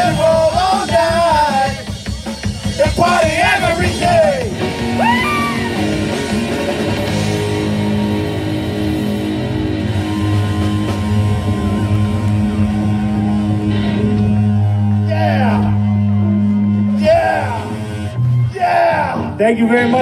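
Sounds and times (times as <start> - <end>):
electric guitars: 0.0 - 20.0
live rock band playing: 0.0 - 20.0.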